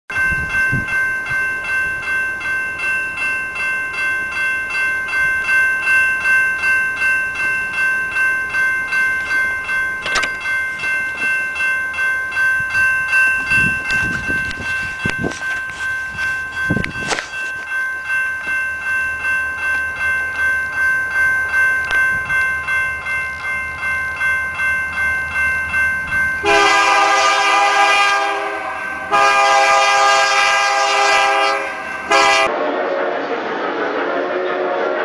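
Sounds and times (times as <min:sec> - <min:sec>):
crossing warning bell ringing: 0:00.1 - 0:32.5.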